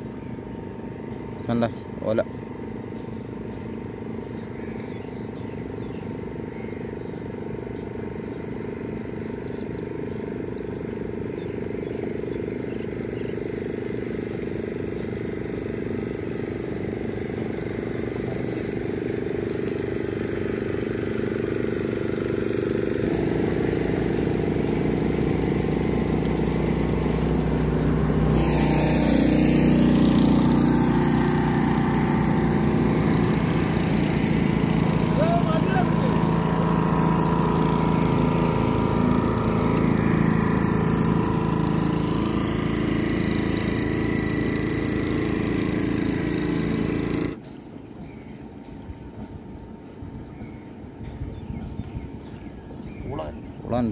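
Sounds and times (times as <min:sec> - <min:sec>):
motorboat engines running: 0:00.0 - 0:53.9.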